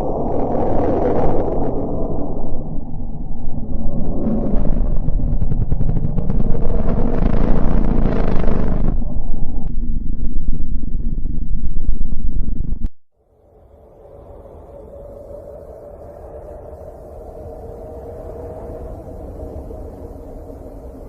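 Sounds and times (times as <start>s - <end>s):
low rumbling space sound: 0.0s - 21.0s.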